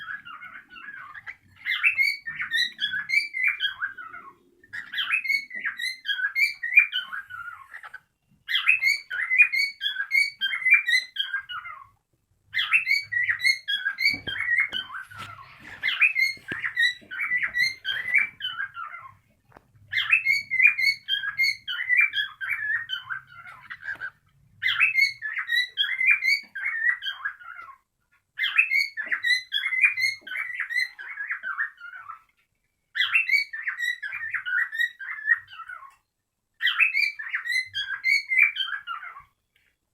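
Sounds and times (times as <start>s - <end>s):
cockatiel chirping and warbling: 0.0s - 39.5s.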